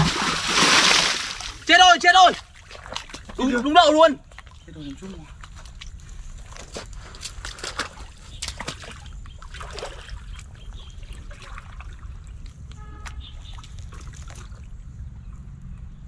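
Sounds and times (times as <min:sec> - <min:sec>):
water splashing and sloshing: 0:00.0 - 0:15.3.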